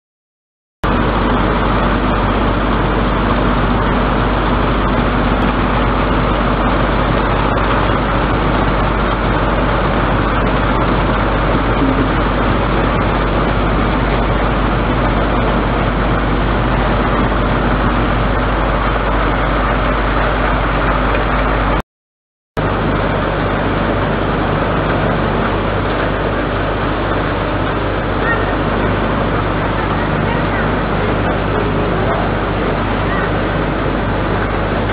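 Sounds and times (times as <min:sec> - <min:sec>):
constant low hum: 0:00.8 - 0:21.8, 0:22.6 - 0:34.9.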